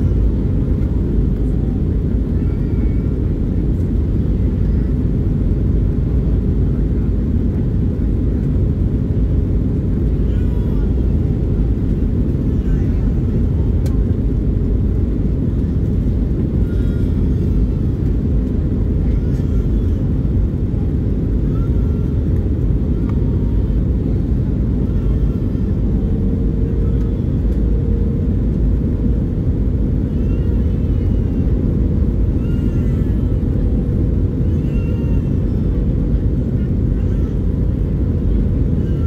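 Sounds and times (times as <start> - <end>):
airplane cabin rumble: 0.0 - 39.0
engine and airflow noise: 0.0 - 39.0.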